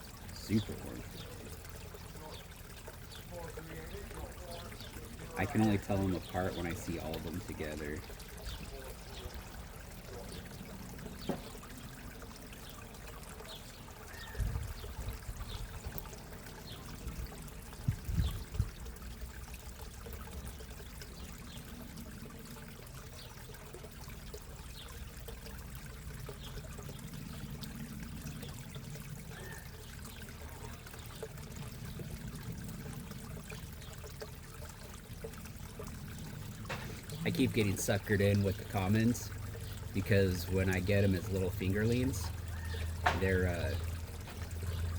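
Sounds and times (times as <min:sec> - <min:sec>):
pond water trickling and pouring: 0:00.0 - 0:44.9.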